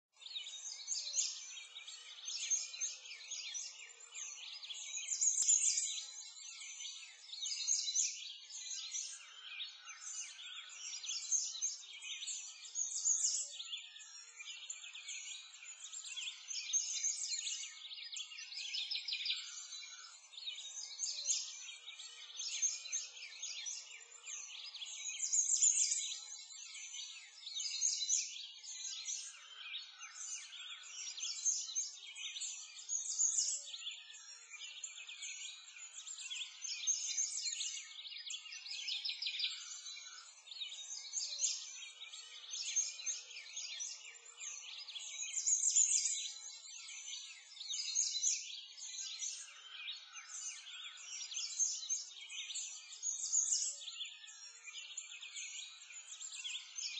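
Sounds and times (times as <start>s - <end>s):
songbirds chirping and twittering: 0.0s - 56.9s.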